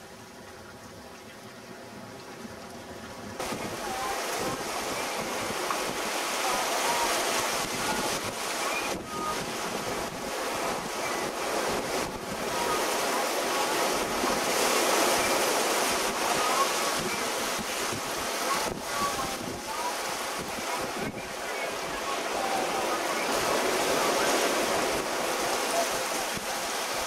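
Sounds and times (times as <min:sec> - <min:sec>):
waves and spray along hull: 0:00.0 - 0:27.0
wind buffeting microphone: 0:03.4 - 0:27.0.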